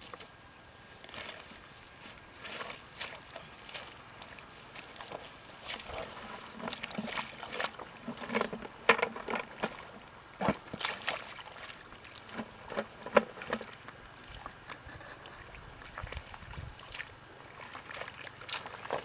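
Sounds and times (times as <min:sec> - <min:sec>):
wading through shallow water: 0:00.0 - 0:19.0.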